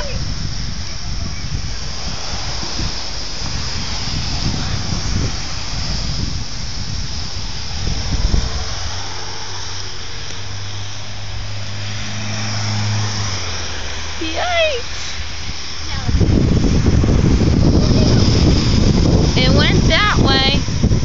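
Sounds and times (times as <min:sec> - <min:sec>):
low rumbling: 0:00.0 - 0:21.0
vehicle engine hum: 0:00.0 - 0:21.0
wind on microphone: 0:00.0 - 0:21.0.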